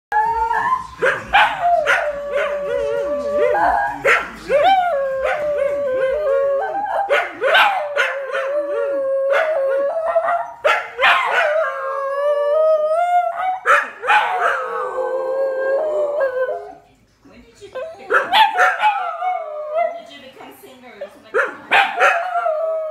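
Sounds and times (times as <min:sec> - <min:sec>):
dogs howling: 0:00.1 - 0:16.8, 0:18.0 - 0:20.2, 0:21.8 - 0:22.9.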